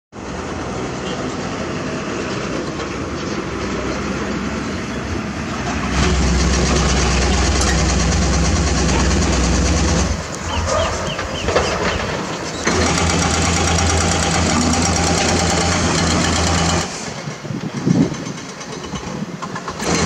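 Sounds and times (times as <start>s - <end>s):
deep engine rumble: 0.2s - 18.0s
heavy diesel machinery din: 0.2s - 20.0s.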